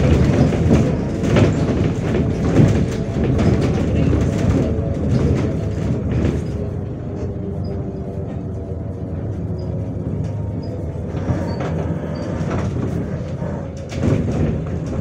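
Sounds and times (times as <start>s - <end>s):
bus running rumble: 0.0s - 15.0s
rattles and clatter from bus body: 0.0s - 15.0s.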